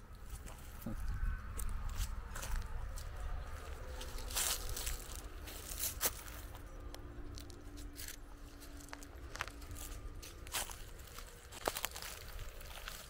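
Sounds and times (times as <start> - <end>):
constant low rumble: 0.0 - 13.0
footsteps crunching on dry ground: 0.0 - 13.0.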